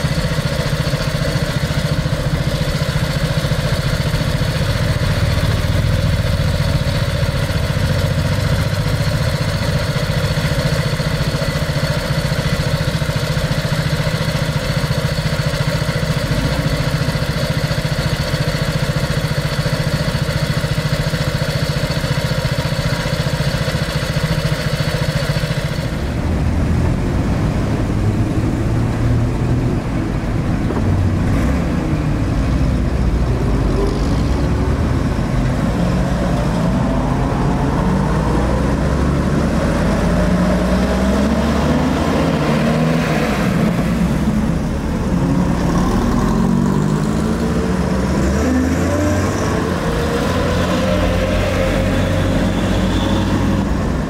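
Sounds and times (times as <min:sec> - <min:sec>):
military vehicle engines running: 0:00.0 - 0:54.0.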